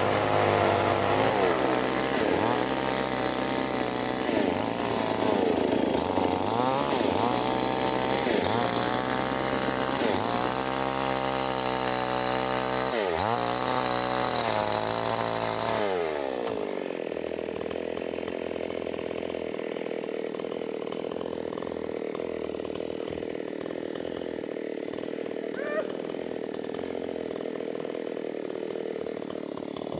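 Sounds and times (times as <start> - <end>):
chainsaw running at high revs: 0.0 - 29.9.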